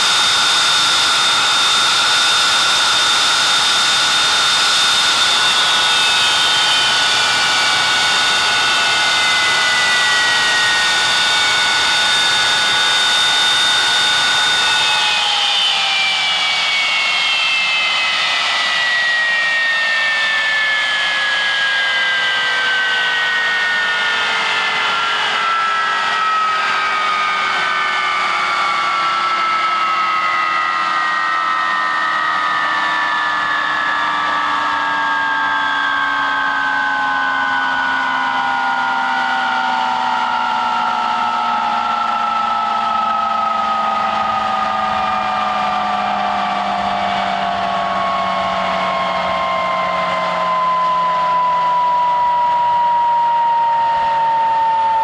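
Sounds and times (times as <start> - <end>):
descending engine whine: 0.0 - 55.0
jet engine rush: 0.0 - 55.0.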